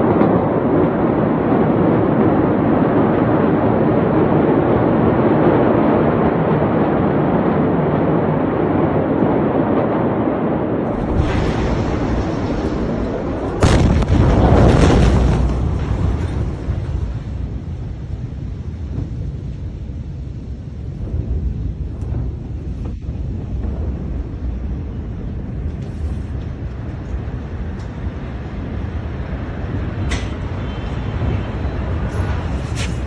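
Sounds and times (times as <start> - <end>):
loud explosion with deep rumble: 0.0 - 32.7
steady rushing noise: 0.0 - 33.0.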